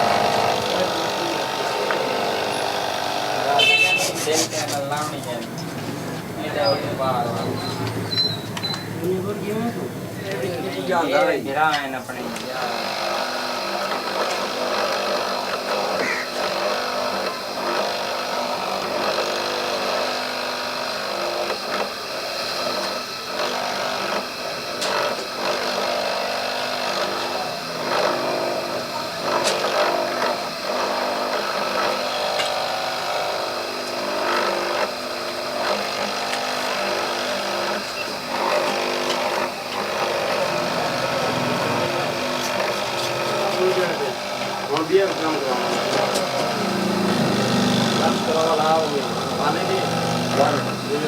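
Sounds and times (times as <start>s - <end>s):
small power tool running: 0.0s - 51.0s.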